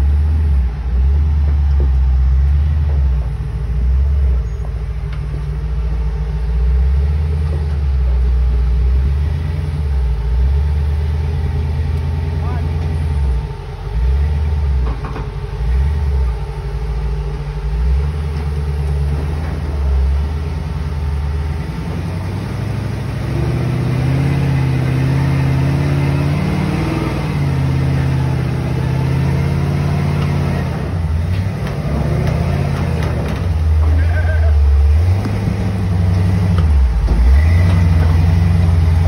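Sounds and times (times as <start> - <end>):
truck engine revving under load: 0.0 - 39.0.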